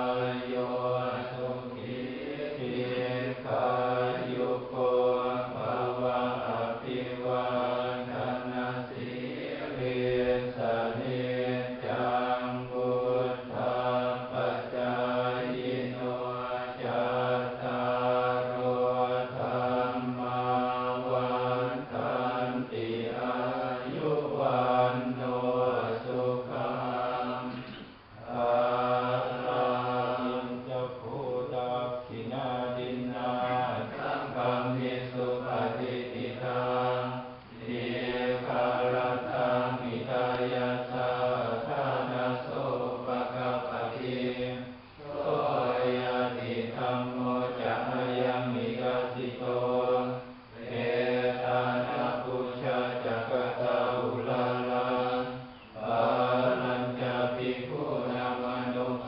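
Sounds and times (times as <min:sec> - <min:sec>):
monks chanting in unison: 0:00.0 - 0:59.0.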